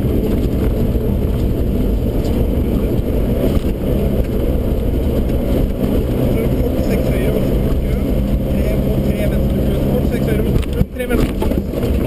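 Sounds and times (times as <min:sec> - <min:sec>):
car engine running hard: 0:00.0 - 0:12.0
tyre and road noise: 0:00.0 - 0:12.0.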